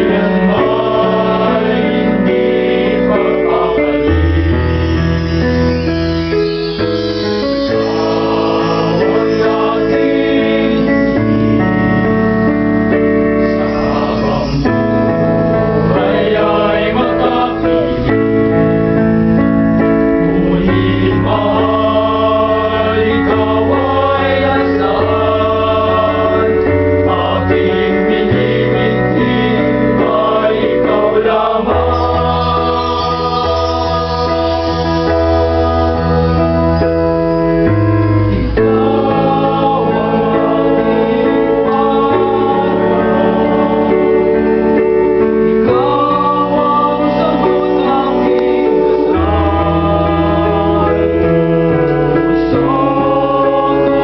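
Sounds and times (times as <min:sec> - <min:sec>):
male a cappella group singing: 0:00.0 - 0:05.2, 0:07.7 - 0:11.4, 0:13.5 - 0:18.2, 0:20.2 - 0:36.9, 0:38.6 - 0:54.0.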